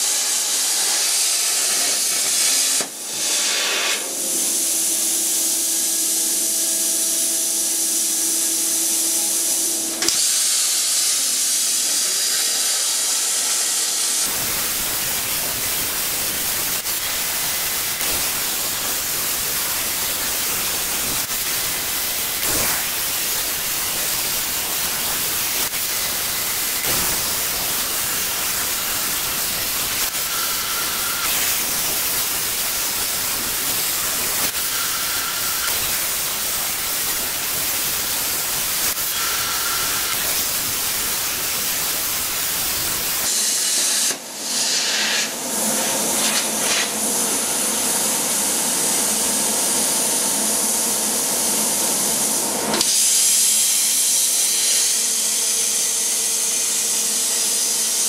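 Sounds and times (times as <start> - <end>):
plasma cutter torch hissing: 0.0 - 58.0.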